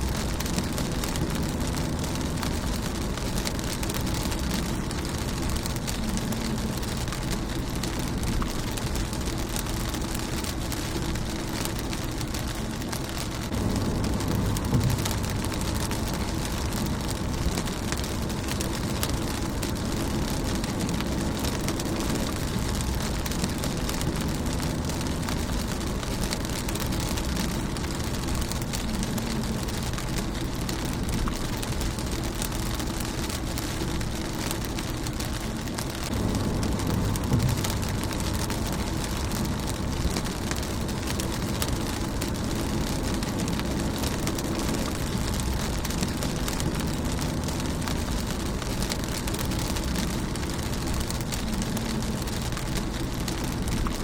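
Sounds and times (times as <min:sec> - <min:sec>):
rain on car windshield: 0:00.0 - 0:54.0.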